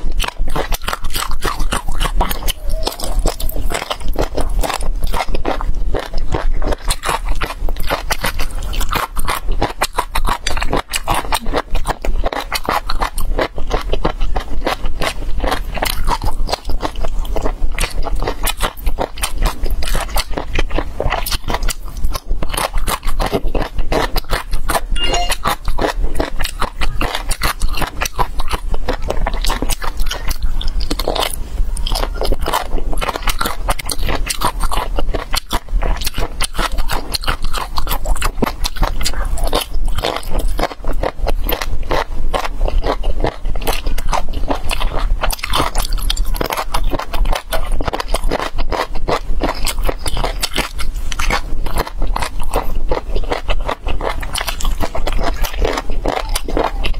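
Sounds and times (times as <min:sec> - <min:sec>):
person chewing crunchy food: 0:00.0 - 0:56.9.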